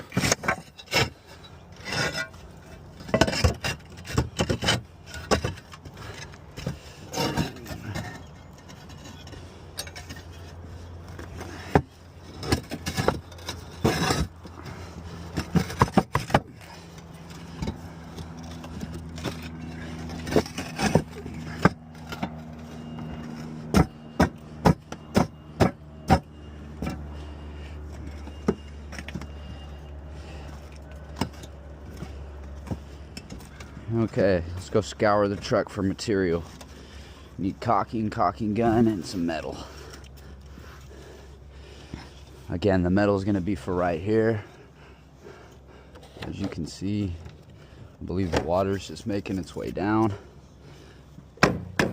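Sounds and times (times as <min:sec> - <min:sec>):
low motor hum: 0:00.0 - 0:51.9.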